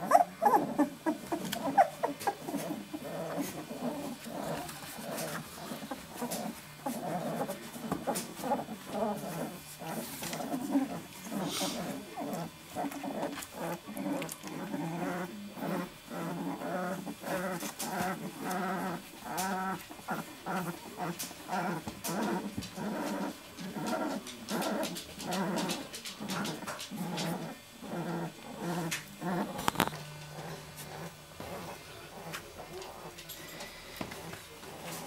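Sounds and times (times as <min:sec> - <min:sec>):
puppies grunting and whimpering: 0:00.0 - 0:35.0.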